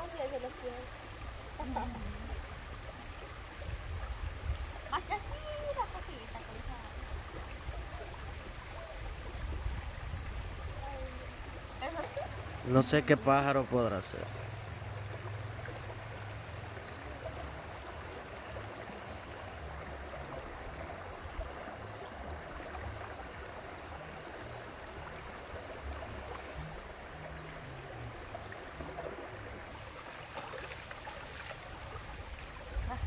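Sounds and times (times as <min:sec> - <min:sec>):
river running over stones: 0:00.0 - 0:33.0.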